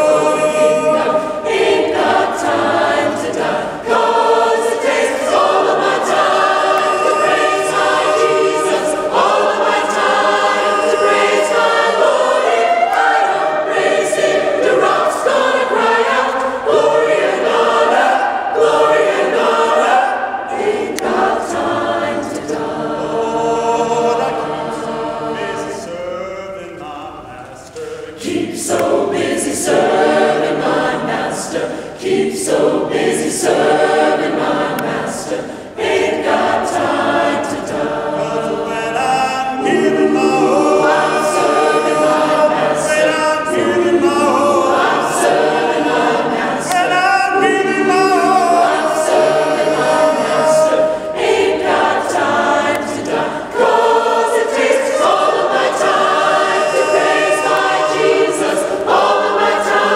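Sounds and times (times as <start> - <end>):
mixed choir singing gospel: 0.0 - 59.9.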